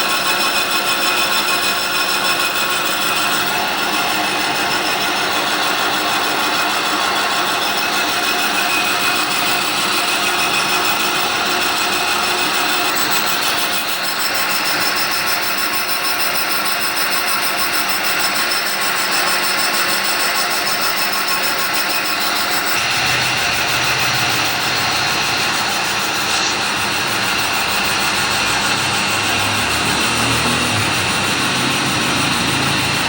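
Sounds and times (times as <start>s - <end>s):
lathe running steadily: 0.0s - 33.0s.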